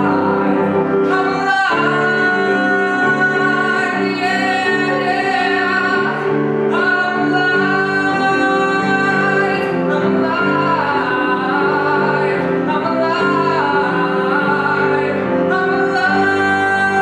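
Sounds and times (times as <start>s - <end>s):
man singing: 0.0s - 17.0s
piano chords: 0.0s - 17.0s.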